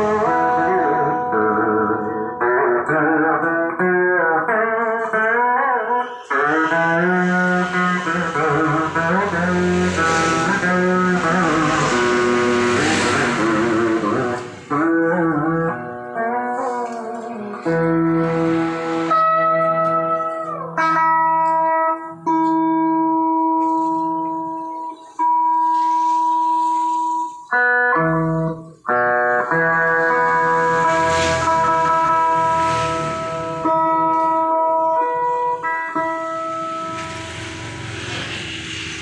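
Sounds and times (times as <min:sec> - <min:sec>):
guitar notes with vibrato: 0:00.0 - 0:39.0.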